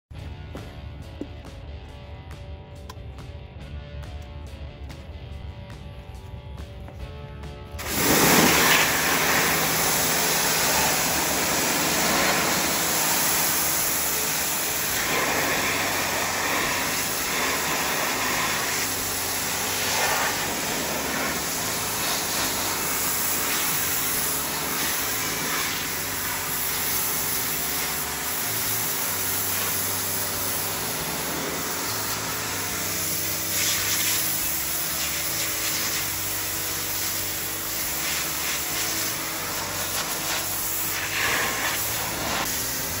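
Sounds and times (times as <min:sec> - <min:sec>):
pressure washer spraying water: 0:07.8 - 0:43.0.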